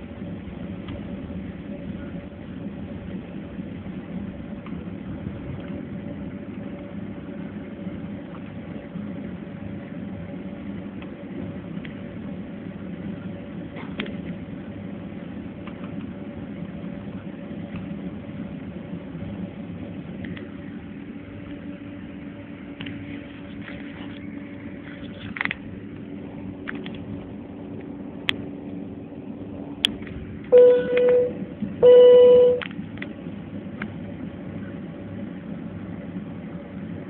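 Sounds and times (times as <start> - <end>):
airliner cabin hum: 0.0 - 37.0.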